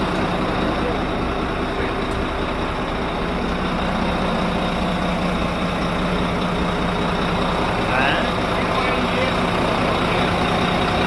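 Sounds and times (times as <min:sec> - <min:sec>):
marine diesel engines humming: 0:00.0 - 0:11.0.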